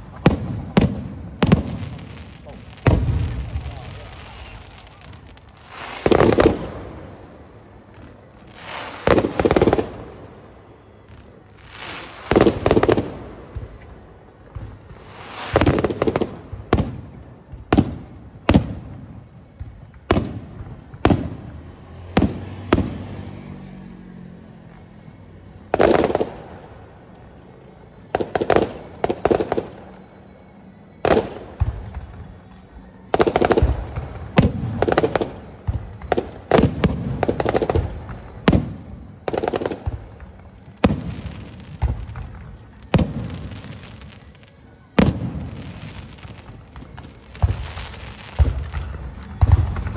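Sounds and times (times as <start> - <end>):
fireworks bursting with sharp bangs: 0.0 - 49.9.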